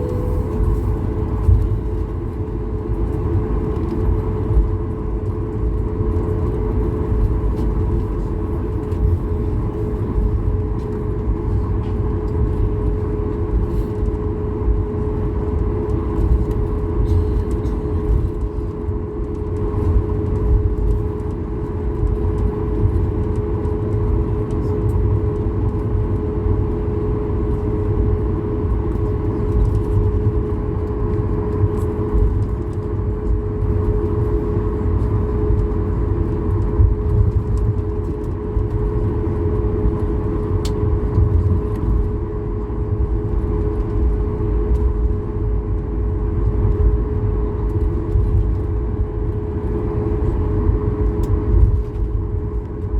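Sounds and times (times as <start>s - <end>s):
airplane cabin rumble: 0.0s - 52.9s.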